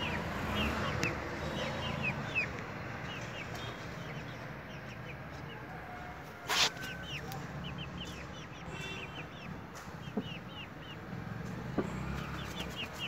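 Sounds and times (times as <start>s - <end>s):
chickens chirping: 0.0s - 13.0s.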